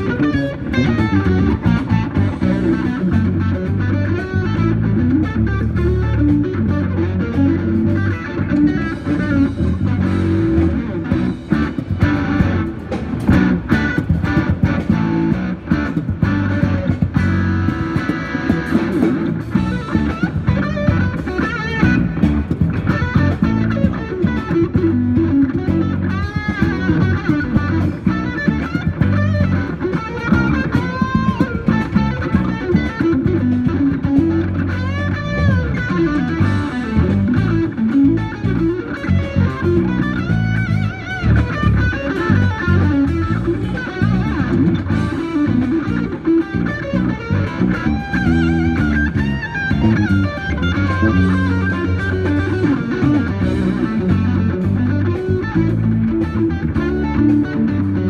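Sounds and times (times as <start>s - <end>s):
electric guitar lead: 0.0s - 58.0s.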